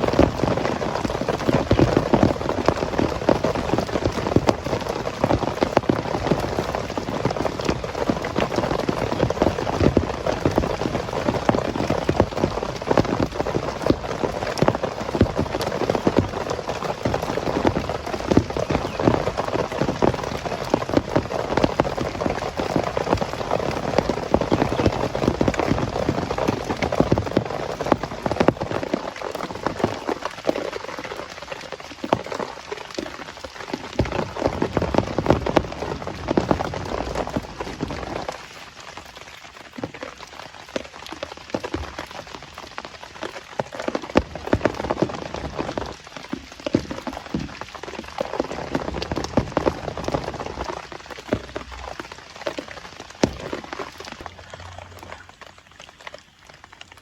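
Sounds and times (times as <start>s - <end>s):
heavy rain drumming on a surface: 0.0s - 57.0s.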